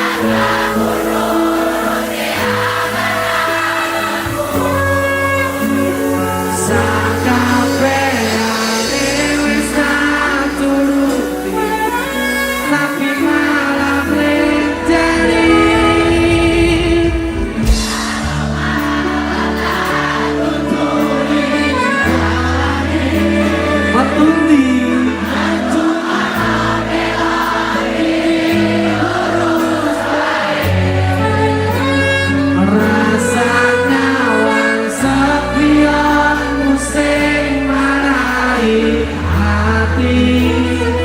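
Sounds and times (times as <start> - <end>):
person singing: 0.0 - 41.0
sustained bass notes: 0.0 - 41.0.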